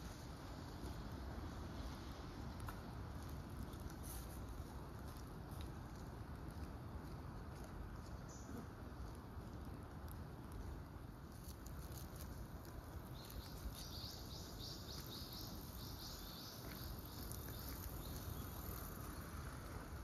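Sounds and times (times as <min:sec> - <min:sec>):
low rumble and hiss: 0:00.0 - 0:20.0.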